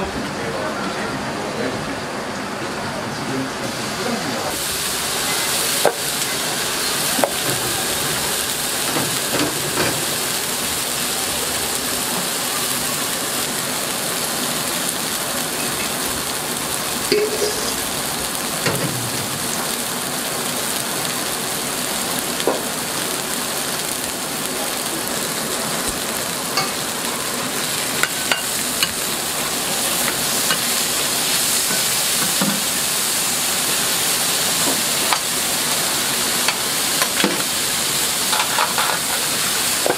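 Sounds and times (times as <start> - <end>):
food frying on griddle: 0.2 - 39.9.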